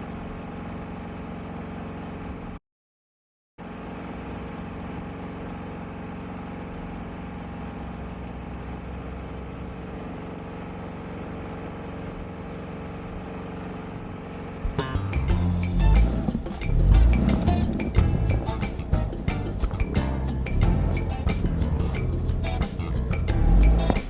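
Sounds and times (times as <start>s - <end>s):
engine running steadily: 3.6s - 24.0s.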